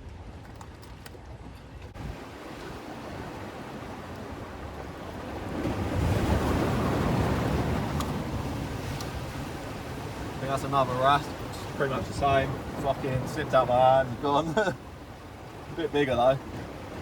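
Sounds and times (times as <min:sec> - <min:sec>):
wind buffeting microphone: 0:00.0 - 0:17.0
sea waves washing in: 0:01.9 - 0:17.0.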